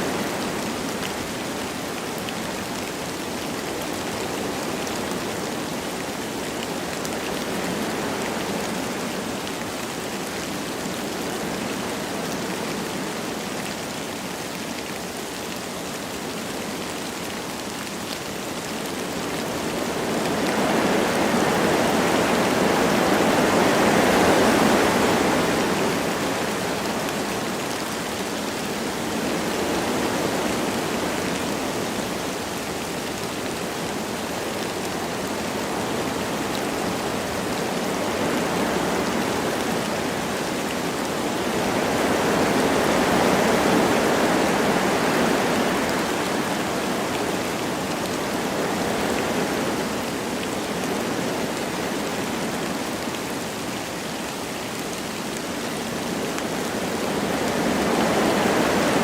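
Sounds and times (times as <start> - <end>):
light rain: 0.0 - 59.0
wind through trees: 0.0 - 59.0.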